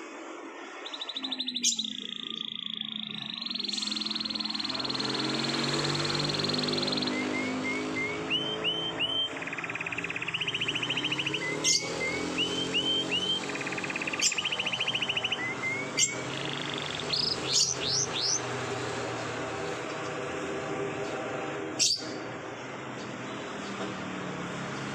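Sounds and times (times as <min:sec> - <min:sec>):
canary singing trills: 0:00.8 - 0:20.3, 0:21.7 - 0:23.8.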